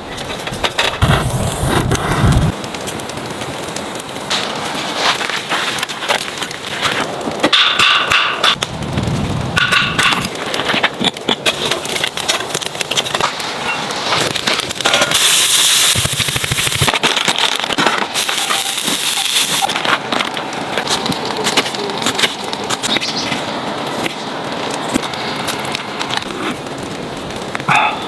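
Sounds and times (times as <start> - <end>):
fire crackling and popping: 0.0 - 28.0
fire hiss: 0.7 - 27.5.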